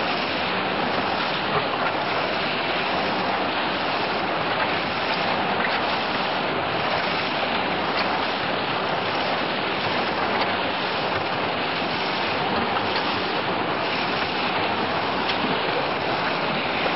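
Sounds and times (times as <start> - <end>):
cement mixer churning: 0.0 - 16.9.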